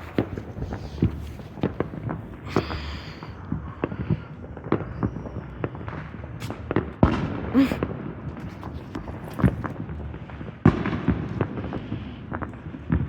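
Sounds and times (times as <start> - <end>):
fireworks popping and cracking: 0.0 - 13.0.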